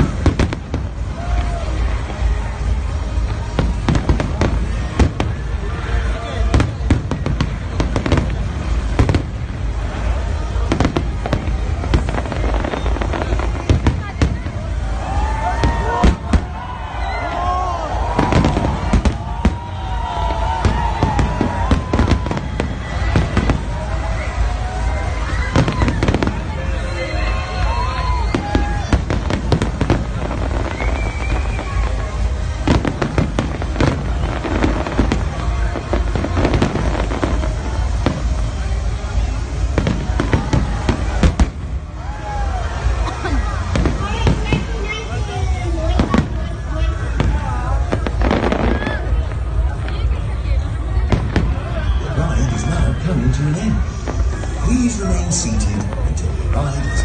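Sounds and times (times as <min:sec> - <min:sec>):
continuous low rumble: 0:00.0 - 0:56.8
fireworks bangs and cracks: 0:00.0 - 0:57.0.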